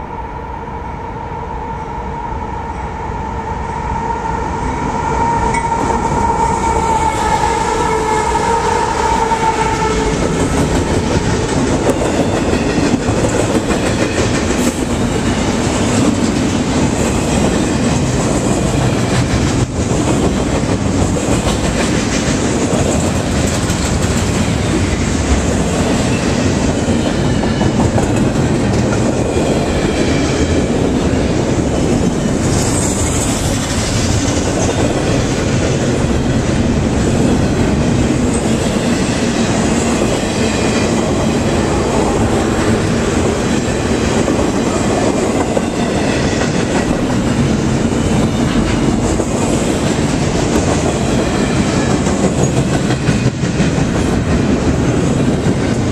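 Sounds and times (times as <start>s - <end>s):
steel wheels running on rail: 2.0s - 55.9s.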